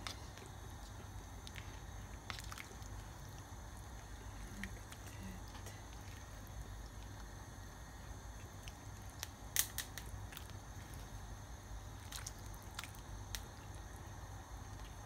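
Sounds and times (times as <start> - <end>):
pot of soup simmering: 0.0 - 15.0.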